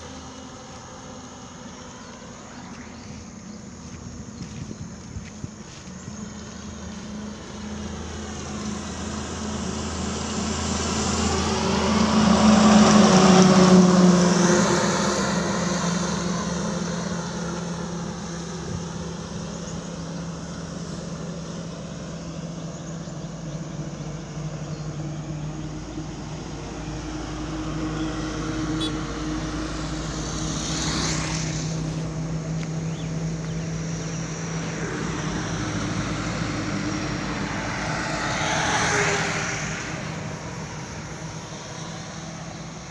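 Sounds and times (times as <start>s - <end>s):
truck engines running: 0.0s - 42.9s
truck passing close: 0.0s - 42.9s.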